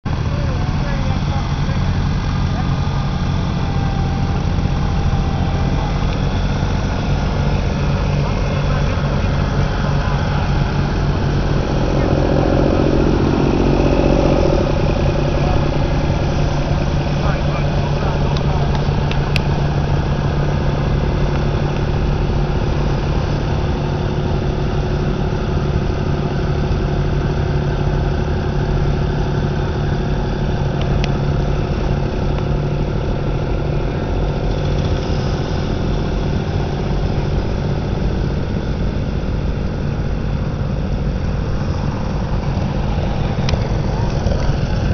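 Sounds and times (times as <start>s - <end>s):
garden tractor engines humming: 0.1s - 44.9s
high steady tone: 1.7s - 44.9s.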